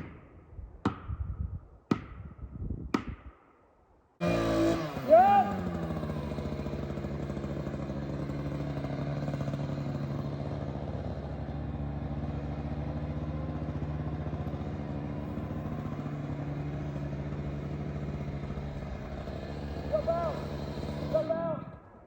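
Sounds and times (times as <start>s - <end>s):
chainsaw idling: 4.2s - 21.9s.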